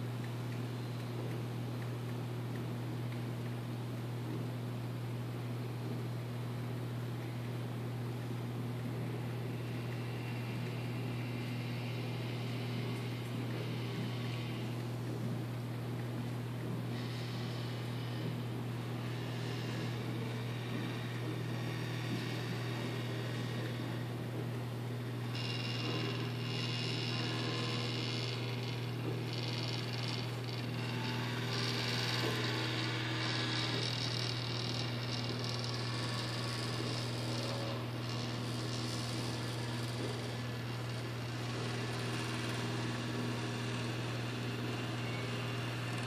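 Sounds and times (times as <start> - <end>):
motor humming and whirring: 0.0 - 46.0.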